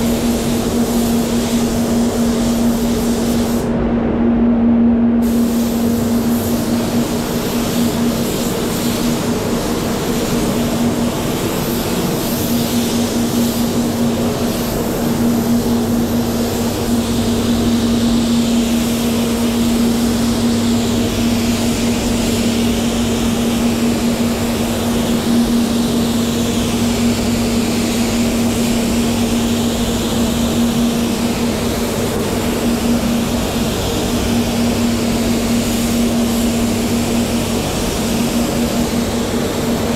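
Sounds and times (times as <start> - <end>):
spray gun hissing: 0.0 - 3.7, 5.2 - 39.9
extraction fans humming: 0.0 - 39.9.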